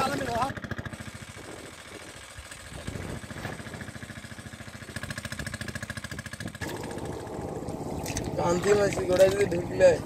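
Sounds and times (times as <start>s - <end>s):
small pump engine thumping: 0.0s - 9.8s.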